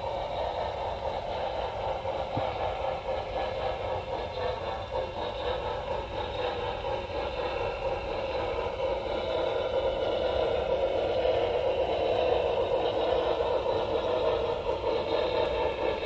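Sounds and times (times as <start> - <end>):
model train motor hum: 0.0 - 16.0.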